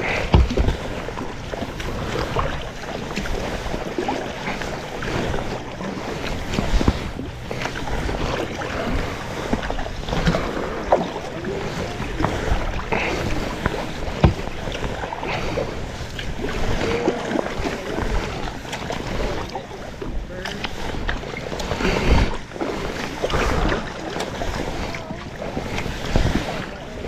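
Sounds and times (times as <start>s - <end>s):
paddle blades splashing: 0.0s - 27.0s
water lapping at hull: 0.0s - 27.0s
wind on microphone: 0.0s - 27.0s.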